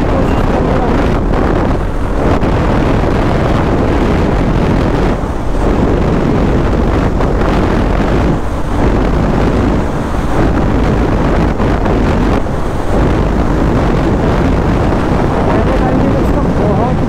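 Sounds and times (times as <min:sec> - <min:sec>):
motorcycle engine: 0:00.0 - 0:16.6
road noise: 0:00.0 - 0:17.0
wind buffeting microphone: 0:00.0 - 0:17.0.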